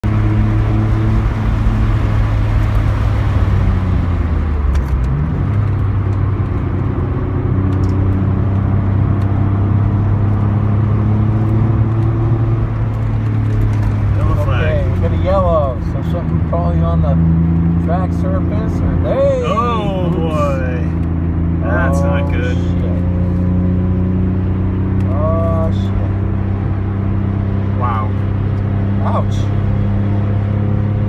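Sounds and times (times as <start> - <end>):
car engine from inside cabin: 0.0 - 31.0.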